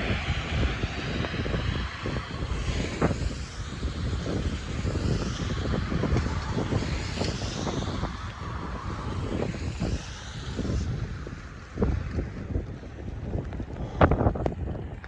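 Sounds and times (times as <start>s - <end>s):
traffic noise: 0.0s - 15.0s
wind buffeting microphone: 0.0s - 15.0s.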